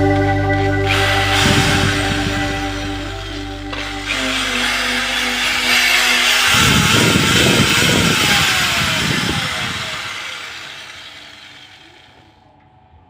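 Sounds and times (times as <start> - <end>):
small motor winding down: 0.9 - 12.4.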